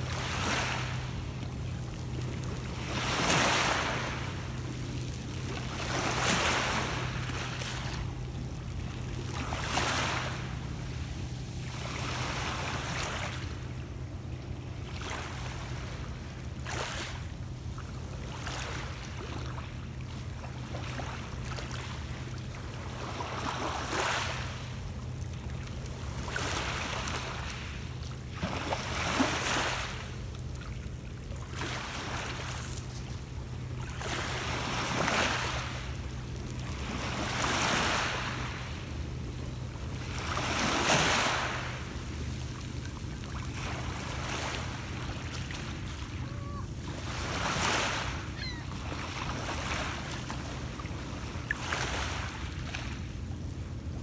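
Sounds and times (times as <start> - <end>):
waves lapping on pebble beach: 0.0 - 14.2, 14.8 - 19.6, 20.5 - 38.9, 39.8 - 53.0
steady low hum: 0.0 - 54.0.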